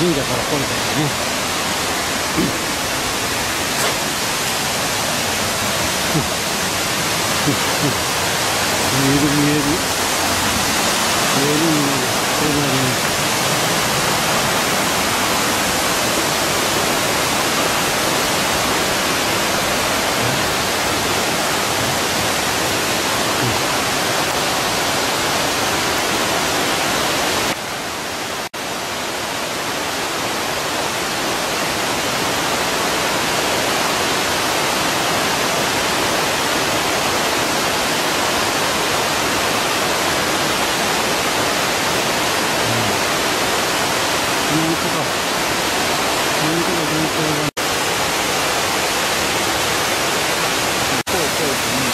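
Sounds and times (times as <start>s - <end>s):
waterfall rushing over rock: 0.0s - 51.9s.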